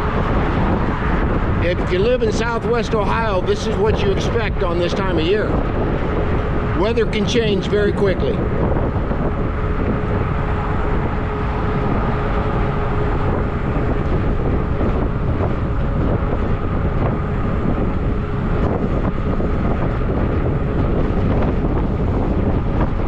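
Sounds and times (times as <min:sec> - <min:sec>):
faint steady whine: 0:00.0 - 0:23.0
low rolling rumble: 0:00.0 - 0:23.0
wind rushing over microphone: 0:00.0 - 0:23.0.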